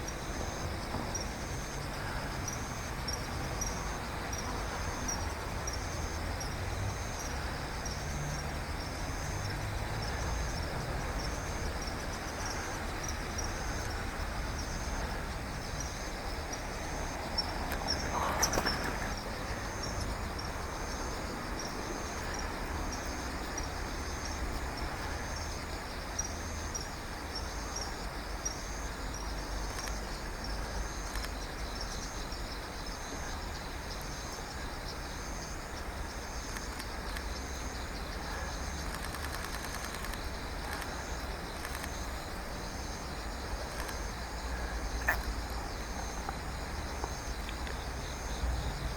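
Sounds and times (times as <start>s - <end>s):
insect chirping: 0.0s - 48.9s.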